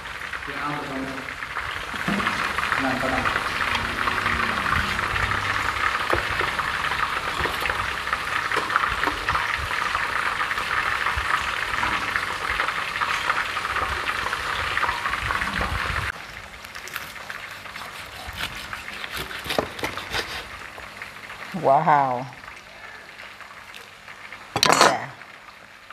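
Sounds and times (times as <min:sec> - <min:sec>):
food deep-frying in oil: 0:00.0 - 0:25.9.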